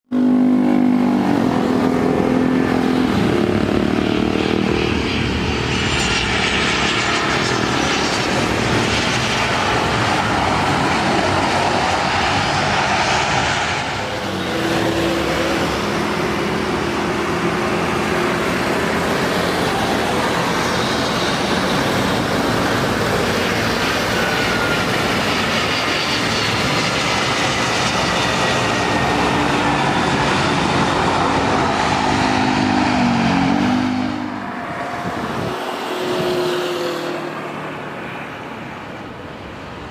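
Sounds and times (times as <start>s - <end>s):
jet engines rushing and whining: 0.0s - 39.9s.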